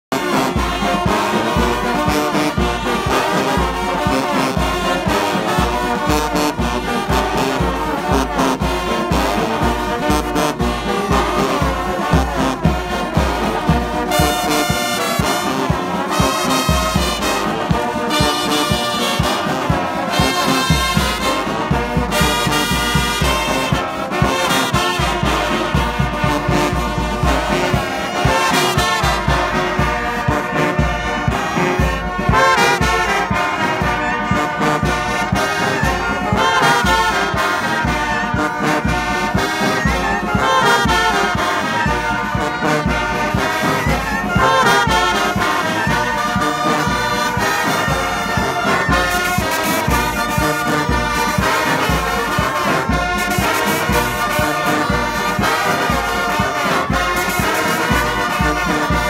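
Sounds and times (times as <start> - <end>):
brass horn music with beat: 0.0 - 59.0.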